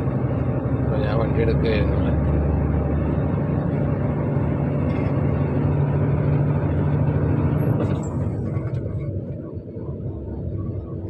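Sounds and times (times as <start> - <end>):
lorry diesel engine droning: 0.0 - 11.0
road noise: 0.0 - 11.0.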